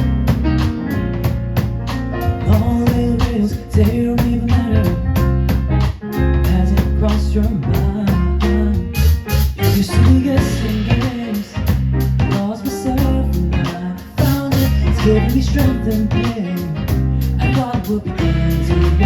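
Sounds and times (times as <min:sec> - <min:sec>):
live band playing pop: 0:00.0 - 0:19.0
steady drum beat: 0:00.0 - 0:19.0
strong bass line: 0:00.0 - 0:19.0.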